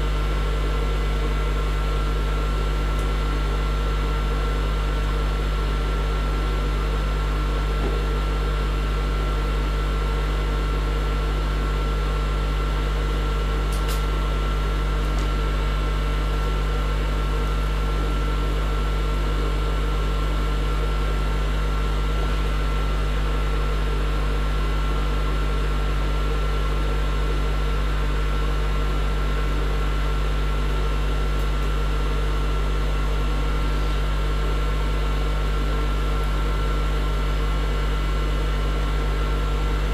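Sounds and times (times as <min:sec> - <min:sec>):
machine hum with low rumble: 0:00.0 - 0:39.9.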